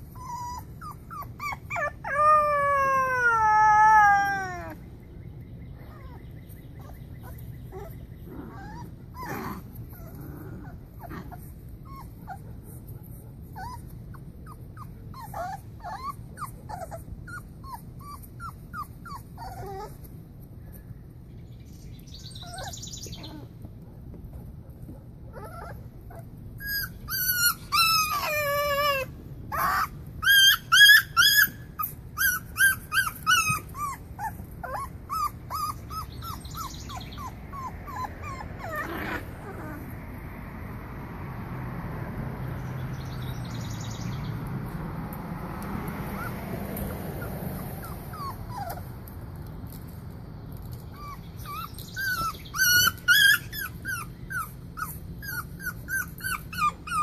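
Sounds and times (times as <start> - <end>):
puppies whining and yelping: 0.0 - 21.2, 22.2 - 40.2, 45.8 - 50.0, 50.6 - 57.0.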